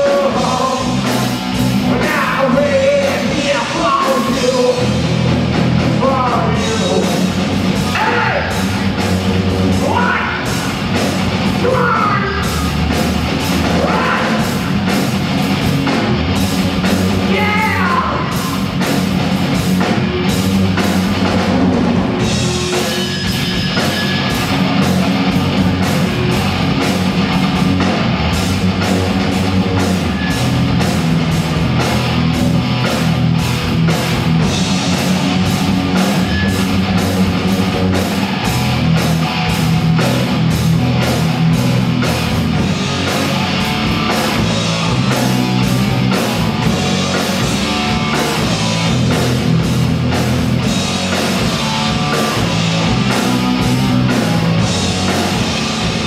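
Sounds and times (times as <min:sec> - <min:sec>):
drum kit beat: 0:00.0 - 0:56.0
electric guitar: 0:00.0 - 0:56.0.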